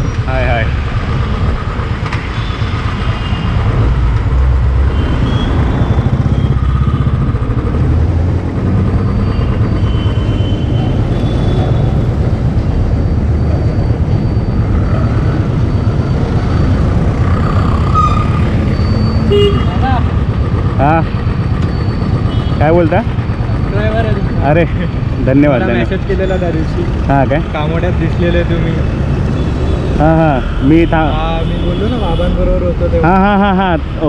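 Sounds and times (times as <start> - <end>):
motorcycle engine running: 0.0 - 30.4
road and traffic noise: 0.0 - 34.0.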